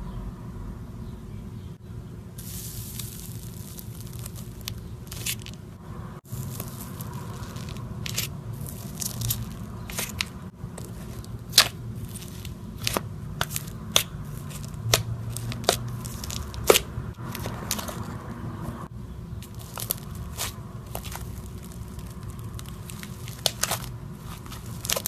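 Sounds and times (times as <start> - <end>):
low steady hum: 0.0 - 25.0
slime popping and crackling: 2.4 - 5.6, 6.3 - 18.0, 19.4 - 25.0.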